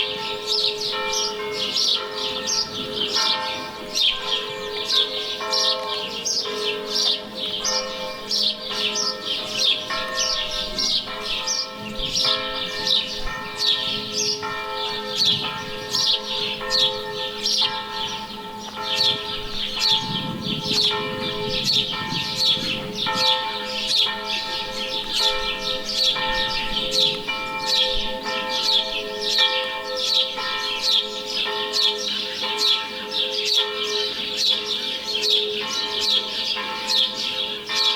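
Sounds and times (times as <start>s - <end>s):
church bells ringing: 0.0s - 37.9s
birds chirping: 0.4s - 37.7s.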